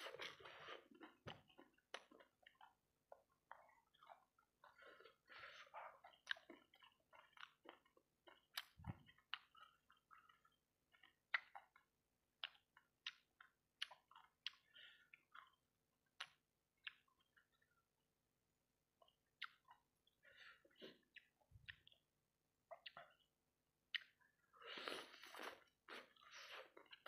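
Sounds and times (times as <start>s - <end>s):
chewing with wet smacks: 0.0s - 18.0s, 18.9s - 27.0s.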